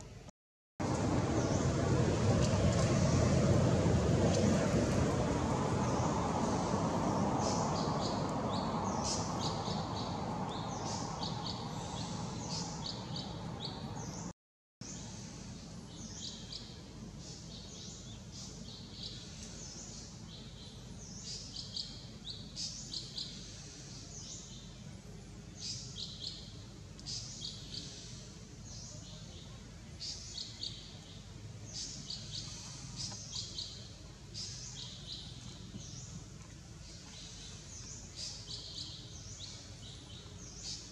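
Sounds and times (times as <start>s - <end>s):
small birds chirping: 5.7s - 40.9s.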